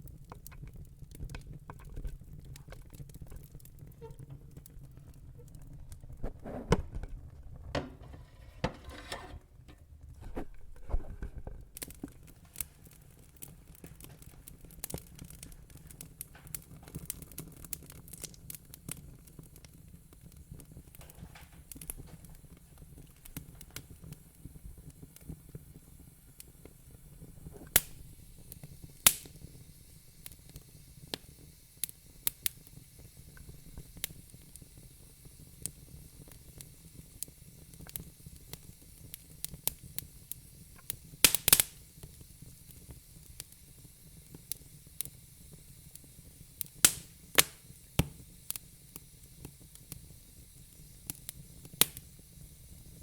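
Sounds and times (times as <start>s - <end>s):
fire crackling: 0.0s - 53.0s.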